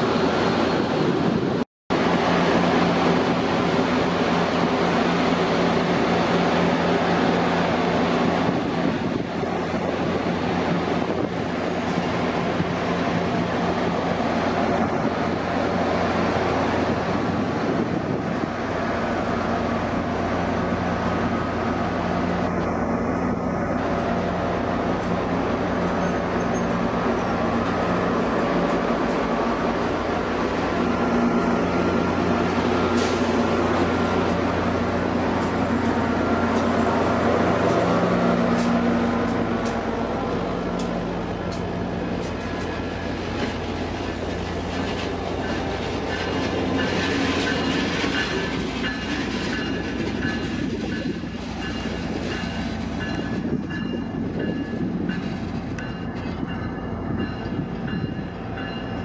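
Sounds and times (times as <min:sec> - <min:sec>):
diesel locomotive engines running: 0:00.0 - 0:59.0.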